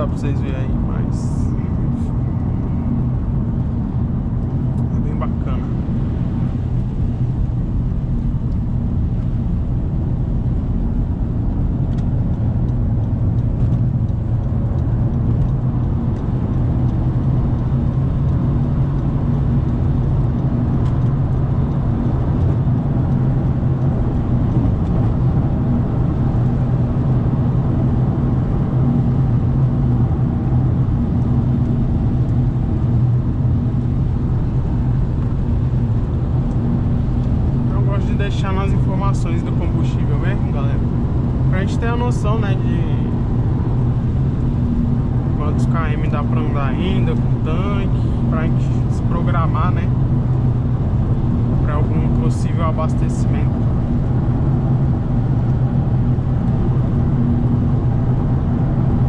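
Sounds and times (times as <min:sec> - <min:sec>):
car engine hum: 0:00.0 - 0:59.0
tyre and road noise: 0:00.0 - 0:59.0.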